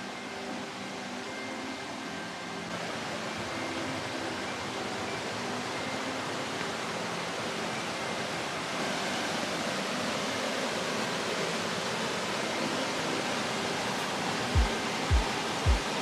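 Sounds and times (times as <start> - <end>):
stream and waterfall rushing over rocks: 0.0 - 16.0.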